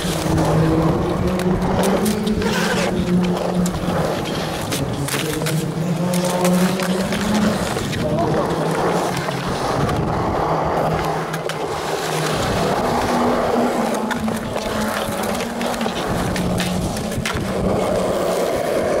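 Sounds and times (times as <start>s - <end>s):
skateboard clicks: 0.0s - 19.0s
skateboard wheels rolling on concrete: 0.0s - 19.0s.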